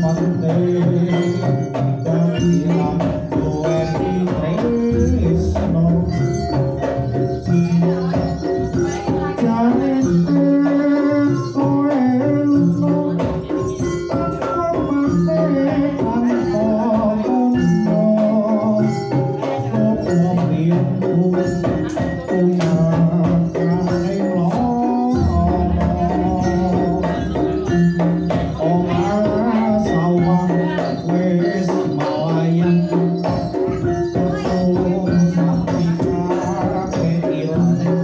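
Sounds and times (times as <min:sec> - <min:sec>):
drum and percussion strokes: 0:00.0 - 0:38.0
gamelan music: 0:00.0 - 0:38.0.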